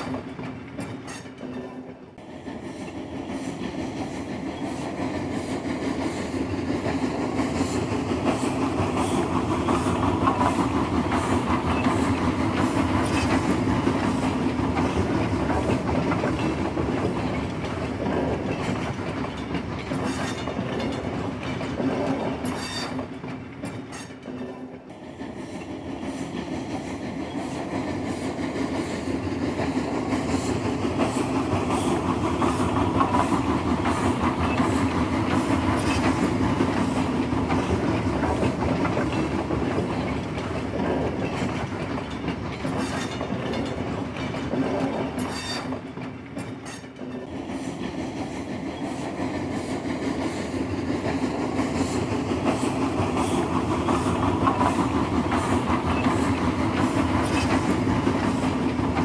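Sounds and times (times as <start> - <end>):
train wheels clicking over rail joints: 0.0 - 59.0.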